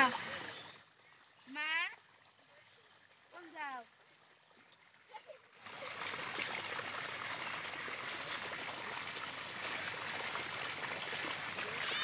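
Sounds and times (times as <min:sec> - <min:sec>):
water rushing in a channel: 0:00.0 - 0:12.0.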